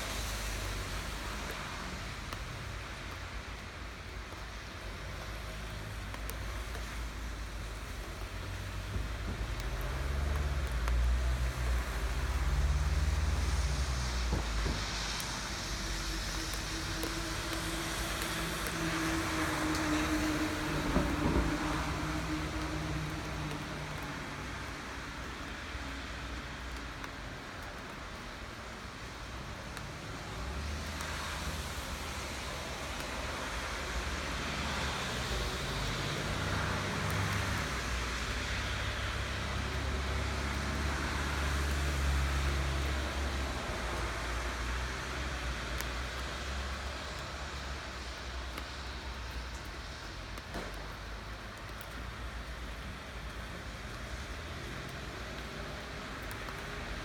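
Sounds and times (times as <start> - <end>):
road traffic rumble: 0.0 - 57.0
steady rain falling: 0.0 - 57.0.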